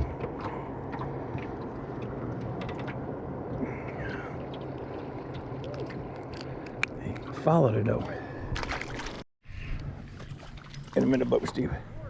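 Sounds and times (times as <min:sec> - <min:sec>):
boat engine hum and rumble: 0:00.0 - 0:12.0.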